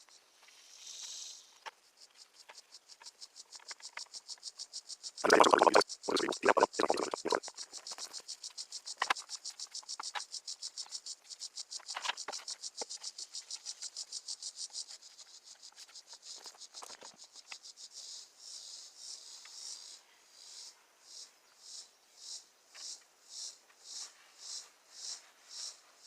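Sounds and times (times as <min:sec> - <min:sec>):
insect chirping: 0:00.0 - 0:26.0.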